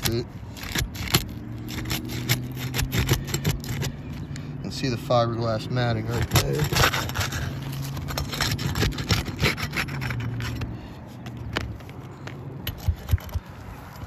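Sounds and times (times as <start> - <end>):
roof shingle scraping and tearing: 0.0 - 4.0, 5.8 - 14.0.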